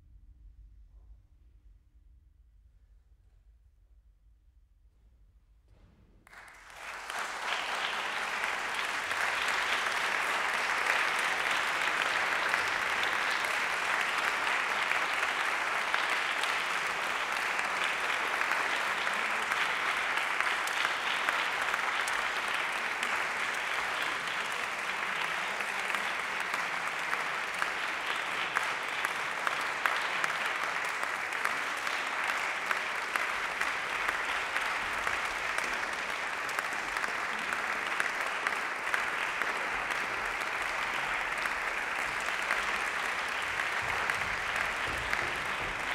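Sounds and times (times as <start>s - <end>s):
audience applause: 6.3s - 45.9s.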